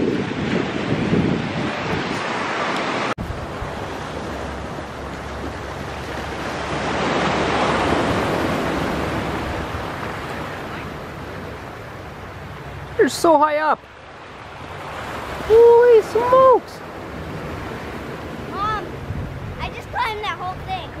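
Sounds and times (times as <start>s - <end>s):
wind buffeting microphone: 0.0s - 12.8s, 14.0s - 21.0s
broad rushing noise: 0.0s - 21.0s.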